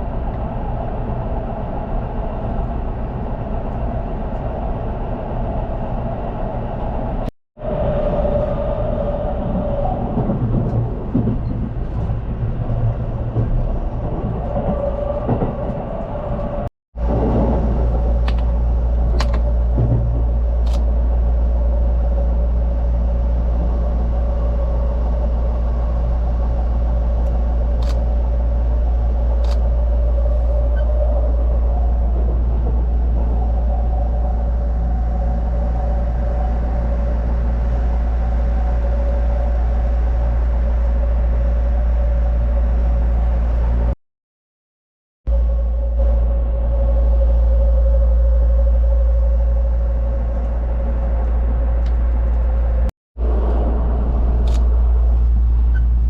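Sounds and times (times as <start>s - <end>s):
train rumbling: 0.0s - 44.0s, 45.3s - 56.0s.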